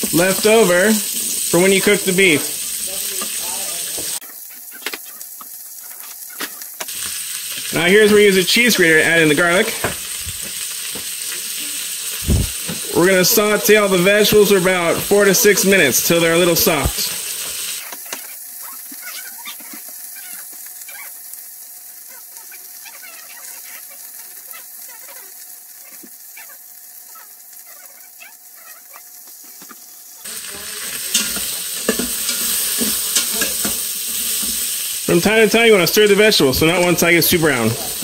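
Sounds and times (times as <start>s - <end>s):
spatula stirring vegetables: 0.0s - 21.4s, 22.0s - 38.0s
vegetables sizzling in a pot: 0.0s - 38.0s.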